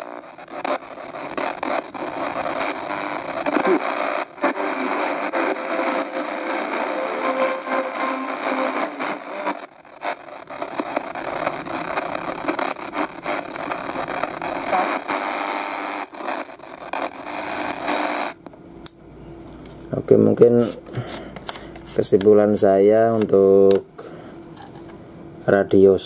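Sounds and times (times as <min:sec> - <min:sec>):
radio static and hiss: 0:00.0 - 0:18.5, 0:20.0 - 0:23.9.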